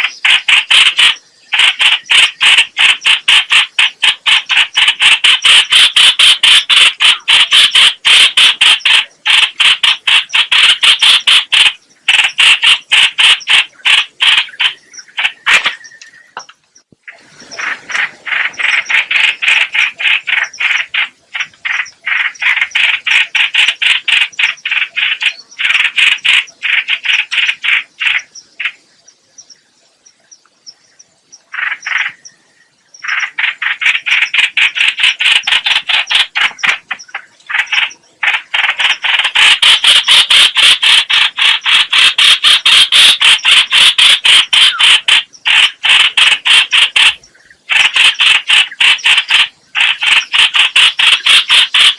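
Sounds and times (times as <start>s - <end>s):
bird calling harsh repeated notes: 0.0s - 51.9s.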